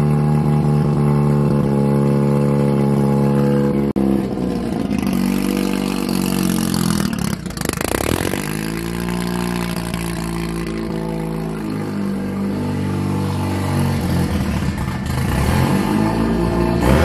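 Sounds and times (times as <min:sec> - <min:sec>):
engine crackling: 0:00.0 - 0:17.0
rotary engine running: 0:00.0 - 0:17.0.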